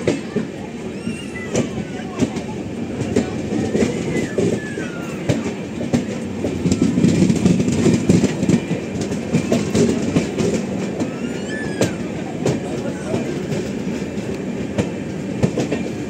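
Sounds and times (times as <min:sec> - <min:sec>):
train wheel rumble: 0:00.0 - 0:16.0
wheels clattering over rail joints: 0:00.0 - 0:16.0.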